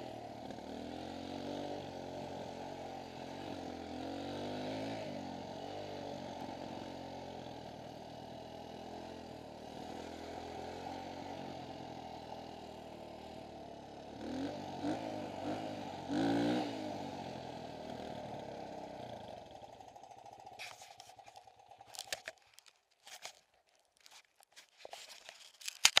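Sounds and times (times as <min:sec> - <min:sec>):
dirt bike engine idling: 0:00.0 - 0:24.2.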